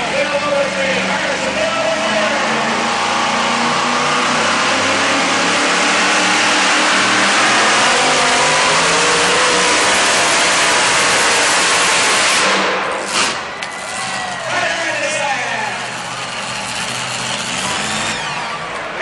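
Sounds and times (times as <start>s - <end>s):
truck engine running at high revs: 0.0s - 19.0s.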